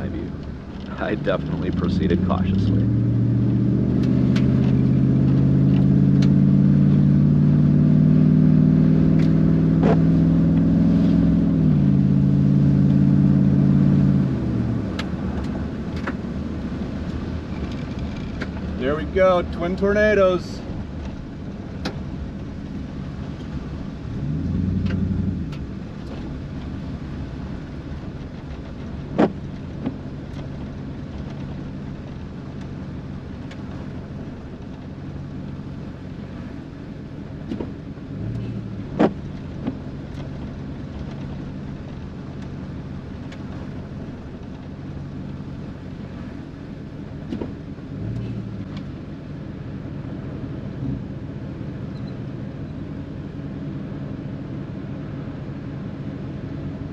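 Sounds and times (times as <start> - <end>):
car engine humming: 0.0 - 56.9.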